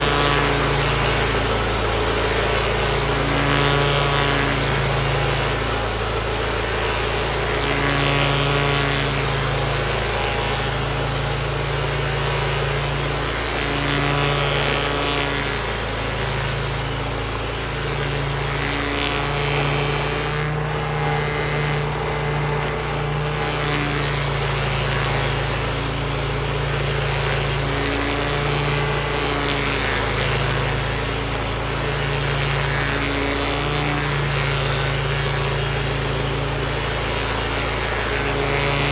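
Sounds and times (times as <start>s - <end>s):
hiss of grinding wood: 0.0s - 38.9s
stump grinder engine drone: 0.0s - 38.9s.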